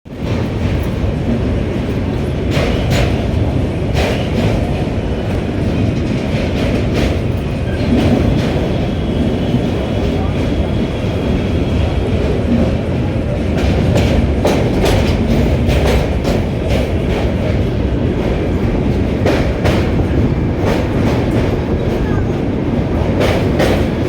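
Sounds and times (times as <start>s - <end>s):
wheel clacks over rail joints: 0.1s - 10.5s, 12.2s - 24.0s
train rumbling over bridge: 0.1s - 24.0s.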